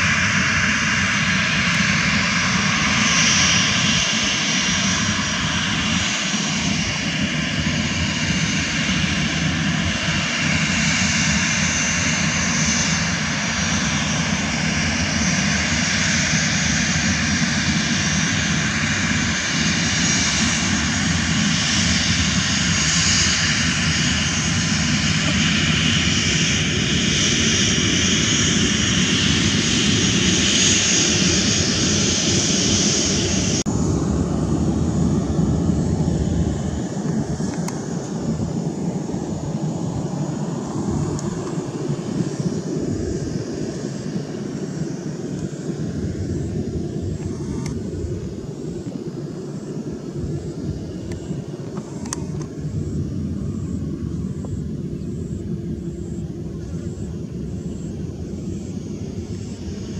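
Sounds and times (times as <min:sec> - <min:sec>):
jet engines rumbling with whine: 0:00.0 - 0:59.9.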